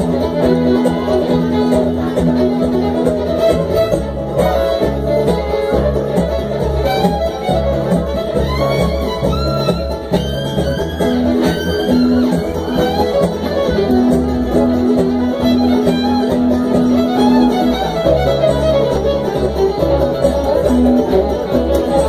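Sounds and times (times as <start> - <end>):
acoustic guitar strumming: 0.0 - 22.0
fiddle lead line: 0.0 - 22.0
upright bass: 0.0 - 22.0.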